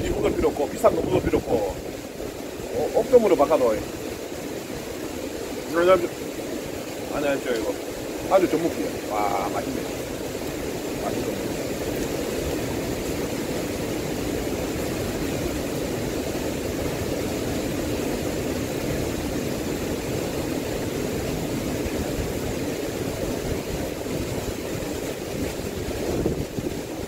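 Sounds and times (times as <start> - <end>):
strong wind blowing: 0.0 - 27.0
wind buffeting microphone: 0.0 - 27.0.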